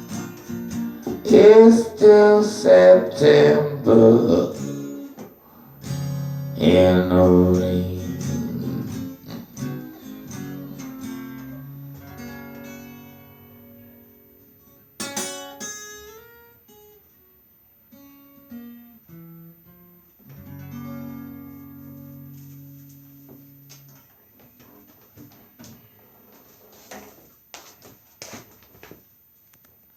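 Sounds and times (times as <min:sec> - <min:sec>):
guitar chords and notes: 0:00.0 - 0:17.3, 0:17.9 - 0:25.8.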